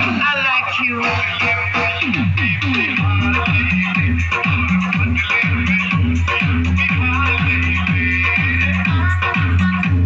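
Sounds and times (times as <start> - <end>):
loud music over loudspeakers: 0.0 - 10.0.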